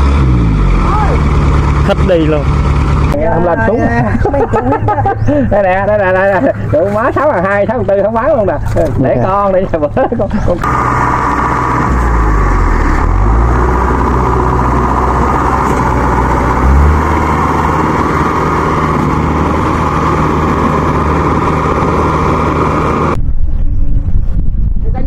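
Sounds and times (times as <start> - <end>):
farm machinery engine revving: 0.0 - 9.0, 10.4 - 23.2.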